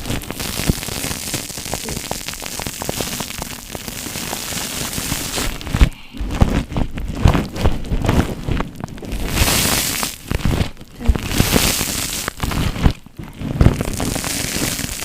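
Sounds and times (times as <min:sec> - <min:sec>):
foam crackling when squeezed: 0:00.0 - 0:15.0.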